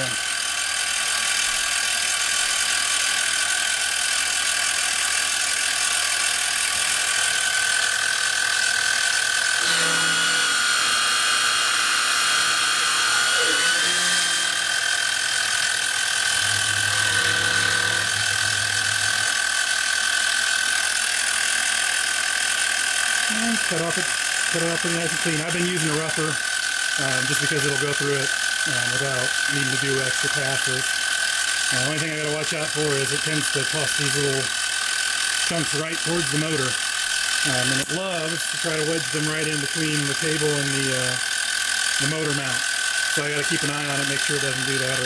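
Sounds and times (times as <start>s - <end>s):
end mill cutting aluminum: 0.0s - 45.0s
mill spindle whining: 0.0s - 45.0s
table motor humming: 0.0s - 45.0s.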